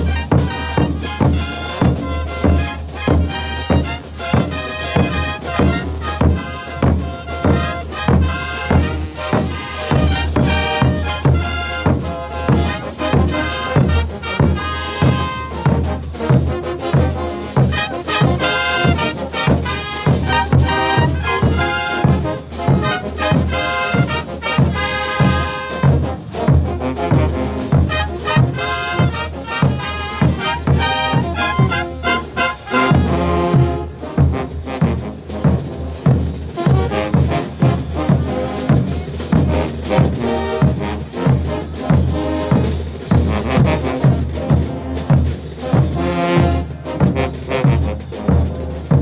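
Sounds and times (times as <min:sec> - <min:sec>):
brass band playing: 0:00.0 - 0:49.0.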